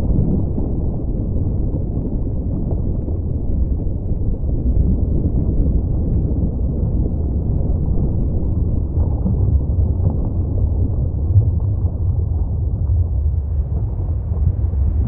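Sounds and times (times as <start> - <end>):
deep churning rumble: 0.0 - 15.0.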